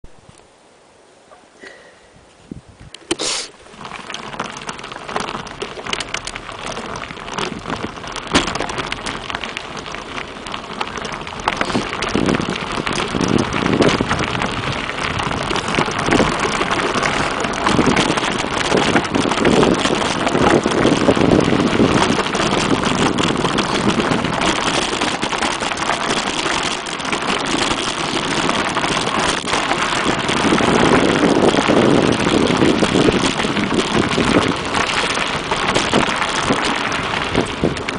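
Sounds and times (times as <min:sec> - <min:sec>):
bike rattles and clicks: 0:02.8 - 0:37.9
tyres rushing on dirt and gravel: 0:03.1 - 0:37.9.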